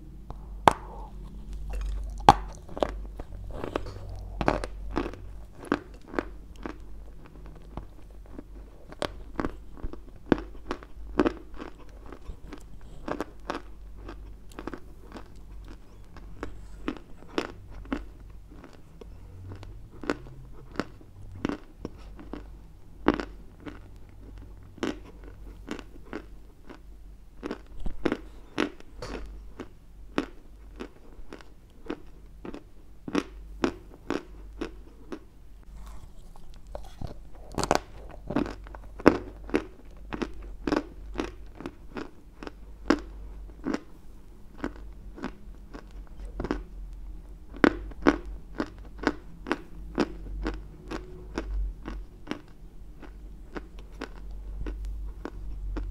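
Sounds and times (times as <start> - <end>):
crunchy chewing of clay: 0.3 - 55.9.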